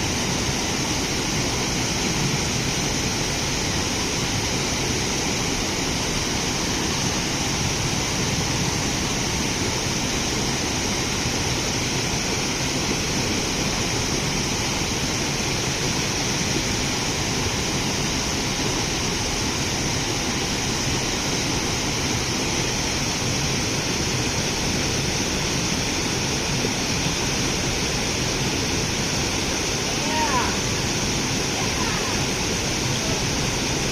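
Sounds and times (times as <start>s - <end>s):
steady rushing noise: 0.0s - 33.9s.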